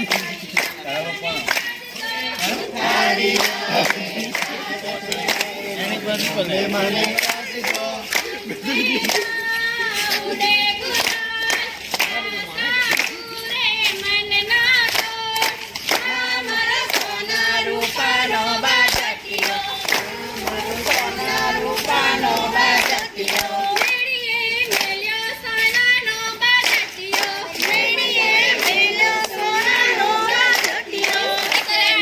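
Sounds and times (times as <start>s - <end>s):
rhythmic hand claps: 0.0s - 32.0s
voices singing together: 0.0s - 32.0s.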